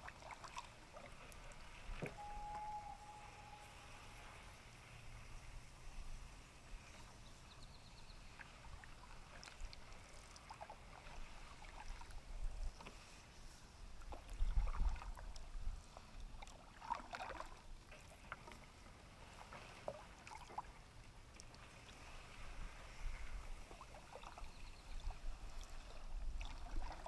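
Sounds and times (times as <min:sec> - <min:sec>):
paddle dipping and swishing: 0:00.0 - 0:27.0.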